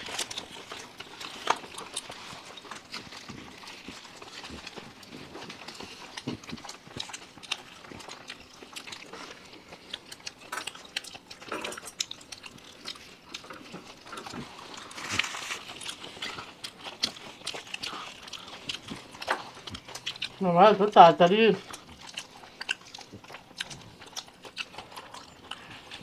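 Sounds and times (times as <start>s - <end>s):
people chewing and smacking: 0.0s - 26.0s.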